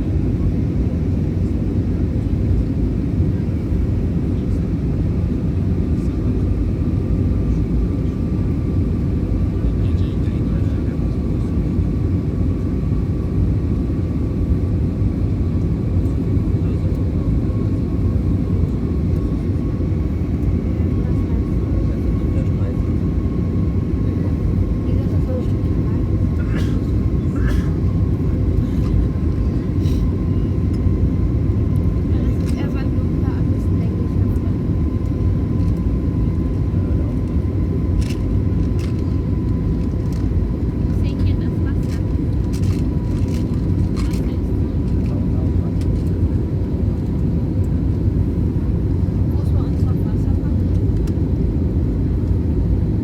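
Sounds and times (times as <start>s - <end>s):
engine and airflow rumble: 0.0s - 53.0s.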